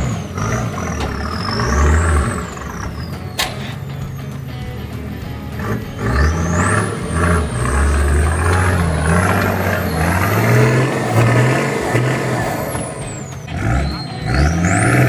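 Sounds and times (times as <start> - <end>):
high whine: 0.0 - 15.0
off-road engine revving: 0.0 - 15.0.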